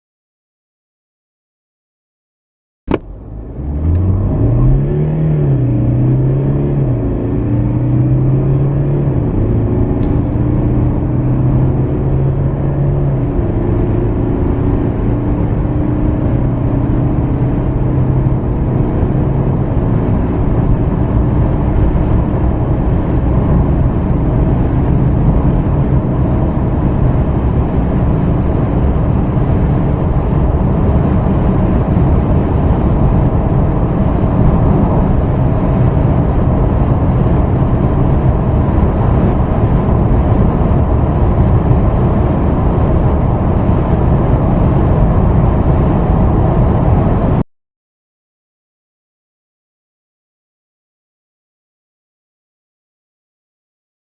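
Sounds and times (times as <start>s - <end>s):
car engine accelerating: 2.9s - 47.4s
wind and tyre noise: 2.9s - 47.4s.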